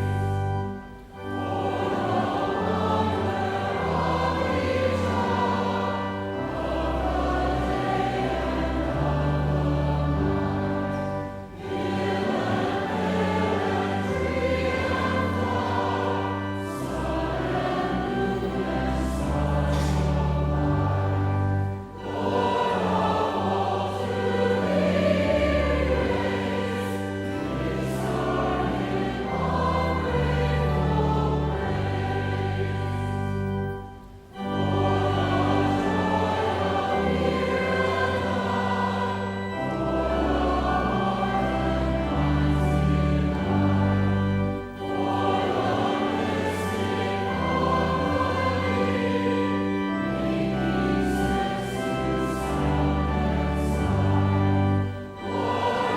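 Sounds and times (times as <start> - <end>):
choir singing sacred music: 0.0 - 55.9
instrumental accompaniment: 0.0 - 55.9.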